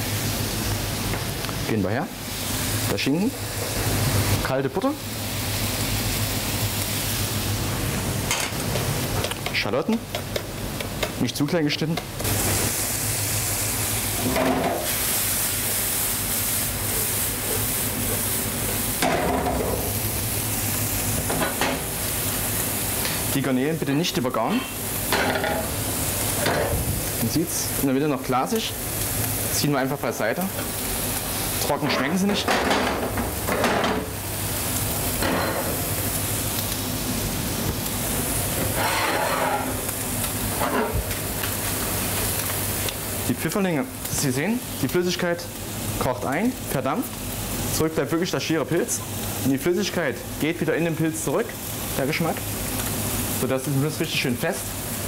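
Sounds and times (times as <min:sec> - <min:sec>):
food sizzling in pans: 0:00.0 - 0:55.0.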